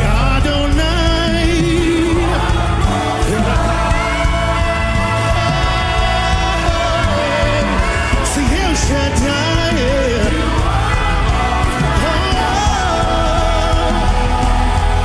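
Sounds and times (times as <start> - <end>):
band with keyboard and bass: 0.0 - 15.0
gospel singing: 0.0 - 15.0.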